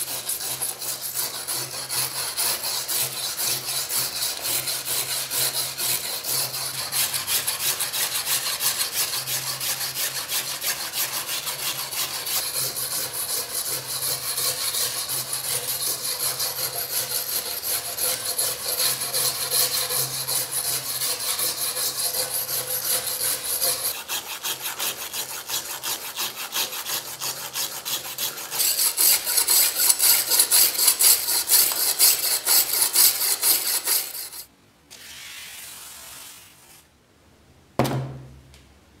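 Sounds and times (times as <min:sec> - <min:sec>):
tool scraping rusted steel blade: 0:00.0 - 0:35.2.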